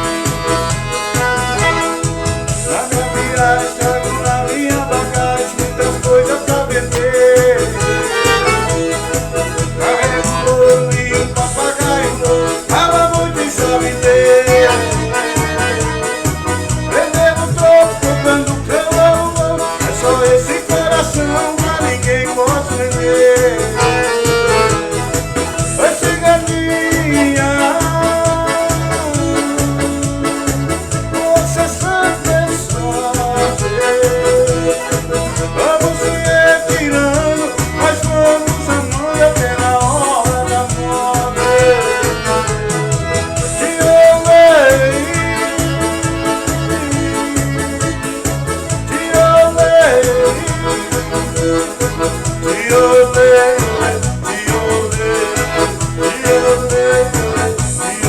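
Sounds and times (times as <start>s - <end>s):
accordion melody: 0.0s - 58.0s
bass and percussion beat: 0.0s - 58.0s.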